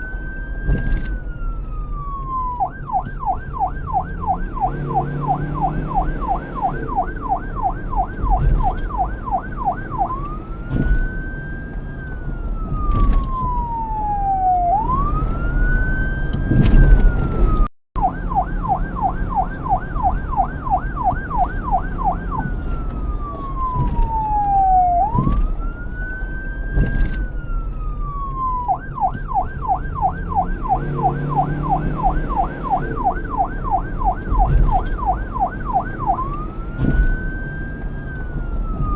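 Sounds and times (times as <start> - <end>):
police siren yelp and wail: 0.0 - 38.9.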